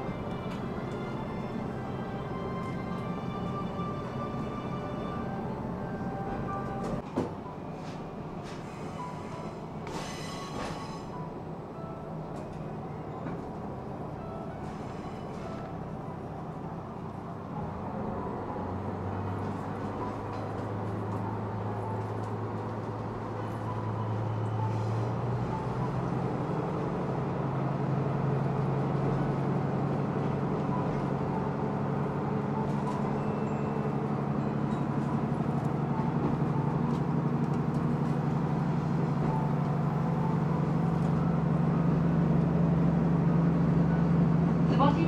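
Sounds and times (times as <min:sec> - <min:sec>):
diesel railcar engine running: 0:00.0 - 0:45.0.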